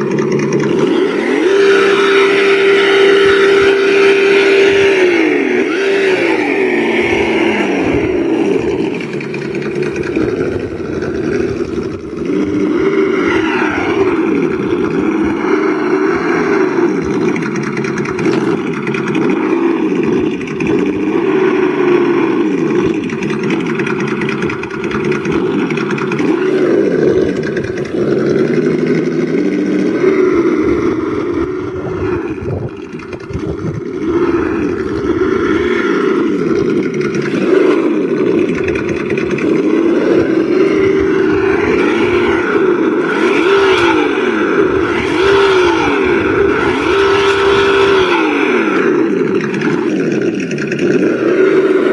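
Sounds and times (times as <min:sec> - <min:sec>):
rc car engine sound revving: 0:00.0 - 0:51.9.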